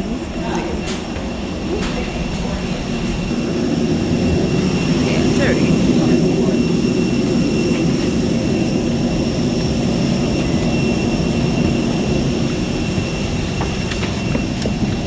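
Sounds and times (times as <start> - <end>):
high-pitched whine: 0.0 - 15.0
jet airliner low rumble: 0.0 - 15.0.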